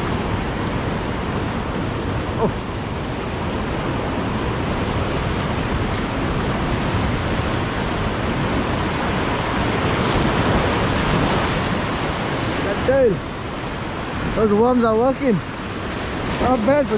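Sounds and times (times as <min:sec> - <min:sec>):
surf washing over rocks: 0:00.0 - 0:16.9.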